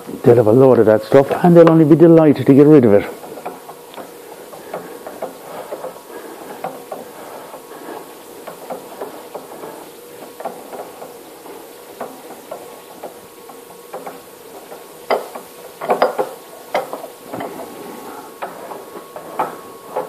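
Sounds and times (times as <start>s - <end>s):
pillar drill humming: 0.0s - 20.0s.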